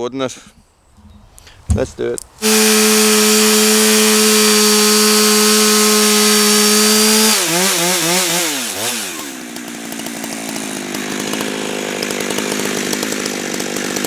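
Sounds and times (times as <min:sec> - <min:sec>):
chainsaw ripping a log: 0:00.9 - 0:14.0.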